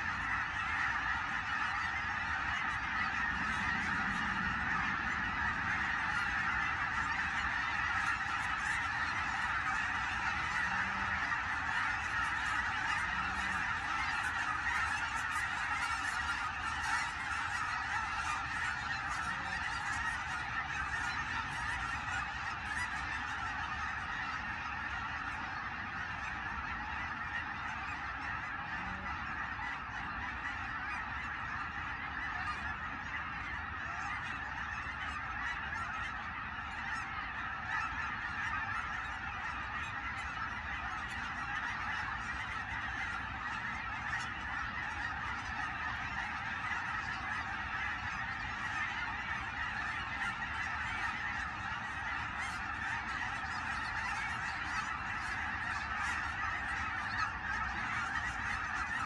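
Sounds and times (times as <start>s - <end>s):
geese honking in flight: 0.0s - 59.0s.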